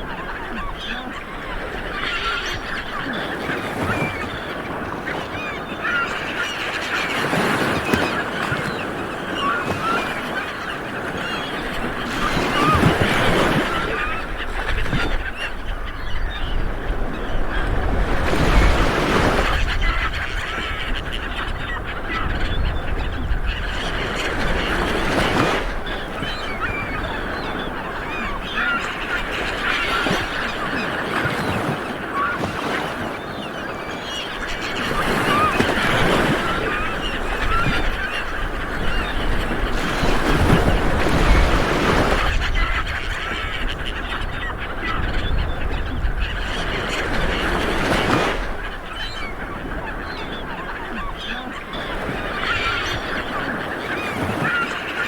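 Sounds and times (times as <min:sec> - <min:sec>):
birds calling: 0:00.0 - 0:55.0
waves breaking on a beach: 0:00.0 - 0:55.0.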